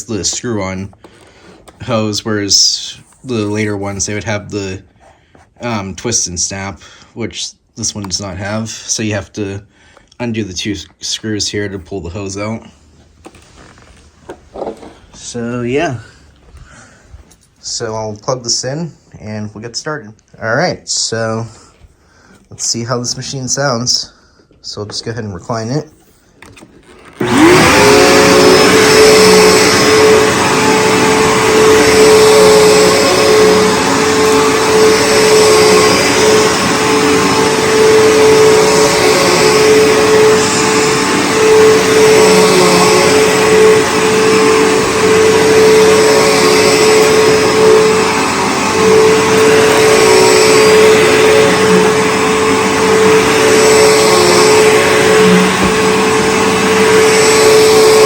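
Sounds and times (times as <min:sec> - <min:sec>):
vacuum cleaner running: 0:00.0 - 0:09.5, 0:10.5 - 0:17.0, 0:26.4 - 0:58.0.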